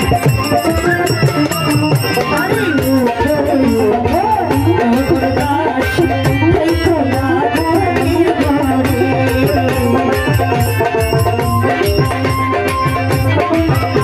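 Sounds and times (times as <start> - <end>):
drum beat: 0.0 - 14.0
rattling percussion: 0.0 - 14.0
woman singing into a microphone: 0.1 - 14.0.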